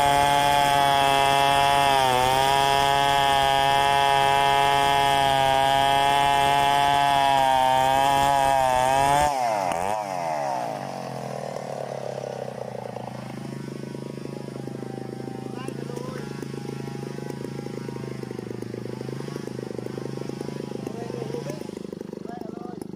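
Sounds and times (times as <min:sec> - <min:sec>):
chainsaw cutting log: 0:00.0 - 0:22.9.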